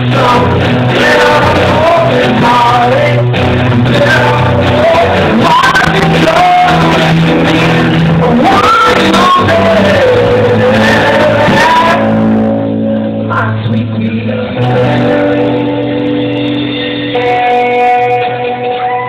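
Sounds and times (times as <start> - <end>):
man singing and shouting: 0.0 - 15.7
rock band playing live: 0.0 - 19.0.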